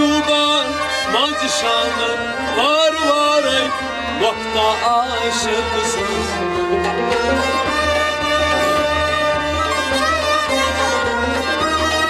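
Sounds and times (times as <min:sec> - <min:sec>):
bowed string melody: 0:00.0 - 0:12.0.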